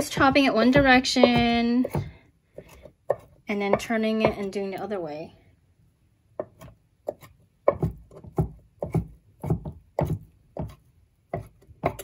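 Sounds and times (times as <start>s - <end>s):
knife chopping on wooden board: 0.0s - 4.5s, 6.4s - 12.0s.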